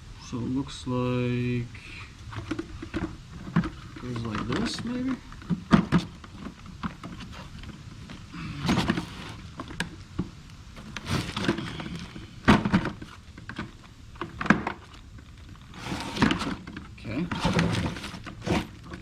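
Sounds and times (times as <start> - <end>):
plastic parts knocking and clunking: 2.3 - 19.0.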